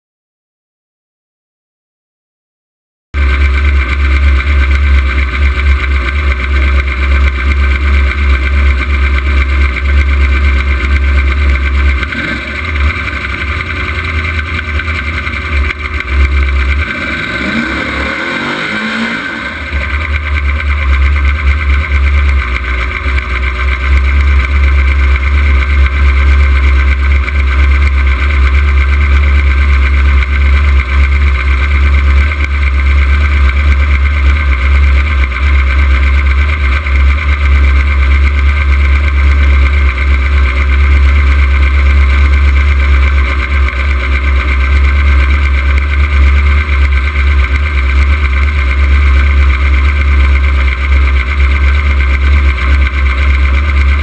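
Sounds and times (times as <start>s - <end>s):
car engine idling: 3.2s - 54.0s.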